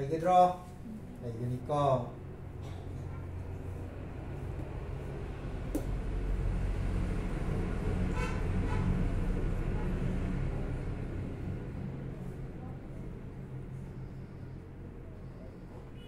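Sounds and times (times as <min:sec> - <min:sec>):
vehicle engine rumble: 0:00.6 - 0:16.0.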